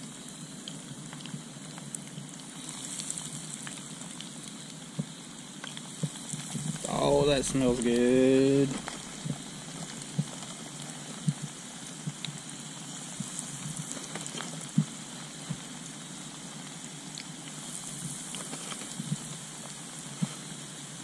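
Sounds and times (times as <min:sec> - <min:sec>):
fish deep-frying in oil: 0:00.0 - 0:21.0.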